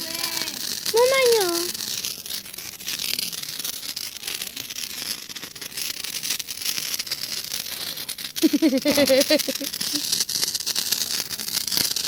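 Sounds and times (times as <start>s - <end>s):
sparkler fizzing and crackling: 0.0s - 12.0s.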